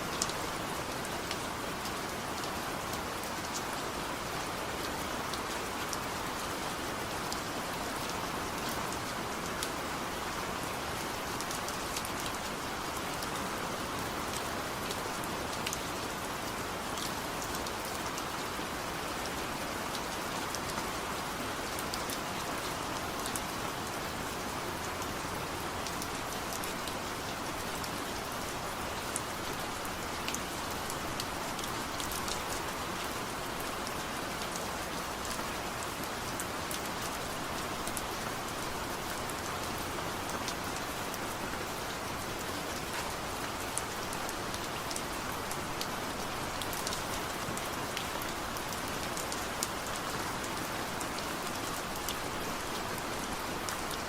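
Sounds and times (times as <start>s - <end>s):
gentle rain hissing: 0.0s - 54.0s.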